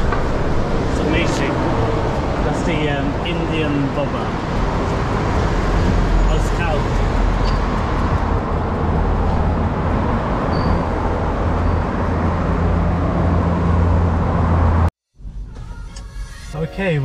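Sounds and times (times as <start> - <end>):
rumble of passing vehicles: 0.0 - 16.5.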